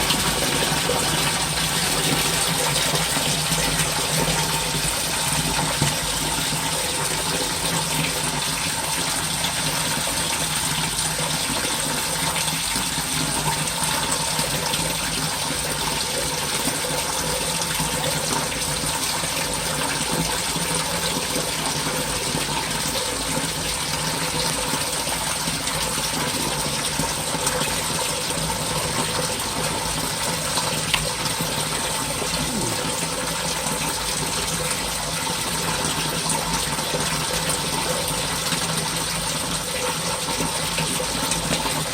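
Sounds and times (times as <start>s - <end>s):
water flowing in sump pit: 0.0s - 41.9s.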